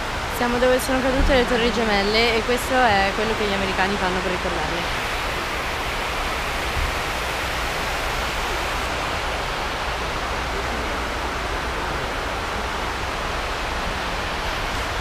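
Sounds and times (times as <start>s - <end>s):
waterfall rushing into basin: 0.0s - 15.0s.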